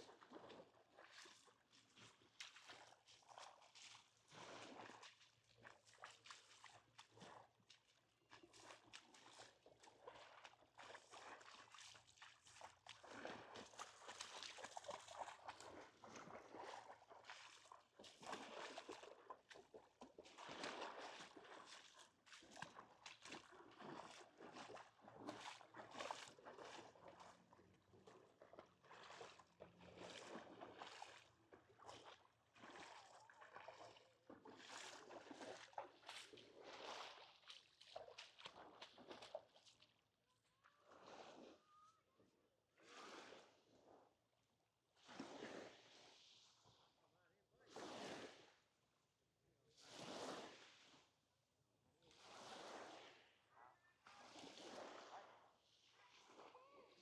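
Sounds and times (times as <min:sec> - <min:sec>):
small waves washing on shore: 0:00.0 - 0:39.8, 0:45.0 - 0:46.8, 0:47.7 - 0:48.6, 0:49.8 - 0:51.1, 0:52.1 - 0:53.4, 0:54.0 - 0:57.0.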